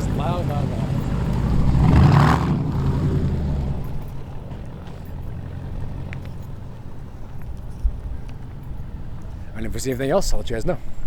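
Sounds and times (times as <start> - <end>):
car exhaust rumble: 0.0 - 9.5.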